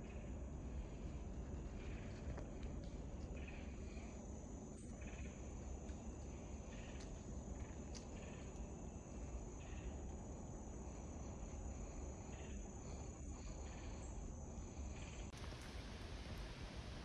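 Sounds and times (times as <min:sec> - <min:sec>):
soft low insect calls: 0:00.0 - 0:17.0
steady low rumble: 0:00.0 - 0:17.0
high-pitched insect trill: 0:03.2 - 0:17.0.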